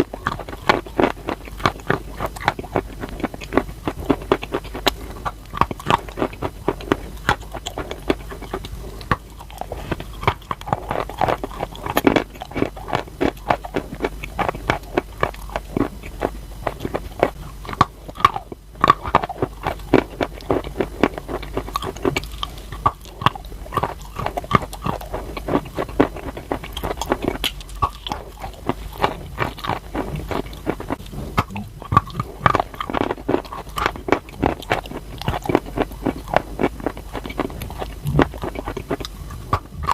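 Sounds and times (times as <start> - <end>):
person chewing crunchy chalk: 0.0 - 39.9.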